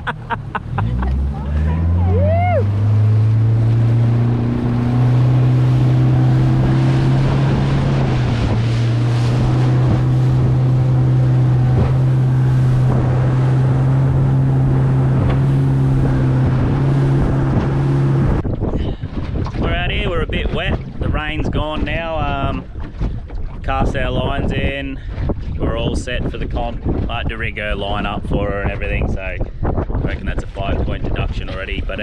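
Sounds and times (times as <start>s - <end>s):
outboard motor running: 0.0s - 32.0s
water rushing past hull: 0.0s - 32.0s
wind on microphone: 1.0s - 32.0s.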